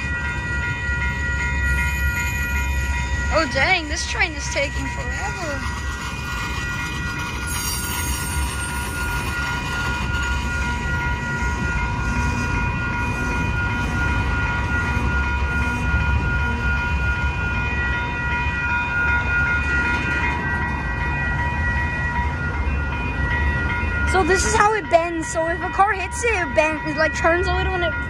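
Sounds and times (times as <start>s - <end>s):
crossing bell ringing: 0.0s - 28.0s
freight train rumbling: 0.0s - 28.0s.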